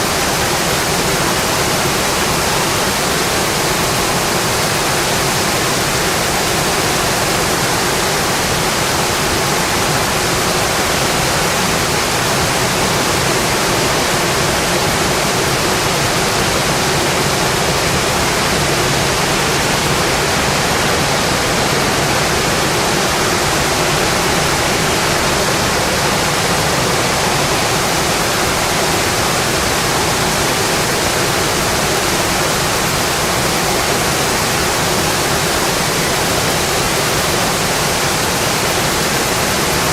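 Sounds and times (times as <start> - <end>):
rain on a windowpane: 0.0 - 39.9.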